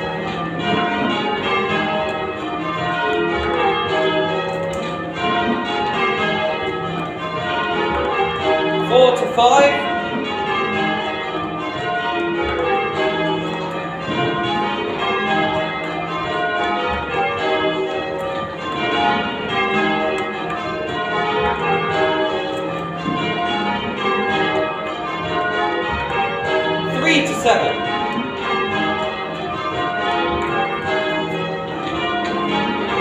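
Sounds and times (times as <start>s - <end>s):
church bells change ringing: 0.0s - 33.0s.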